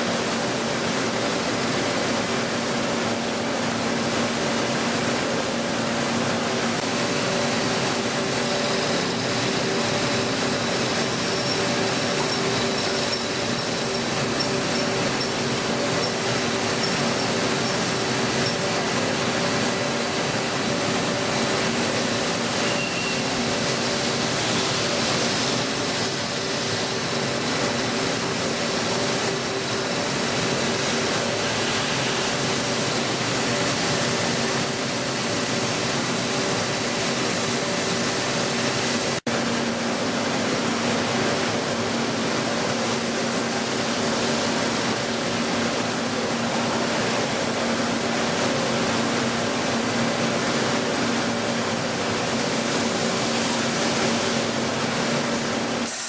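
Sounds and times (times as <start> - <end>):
machine coolant spray hiss: 0.0 - 56.0.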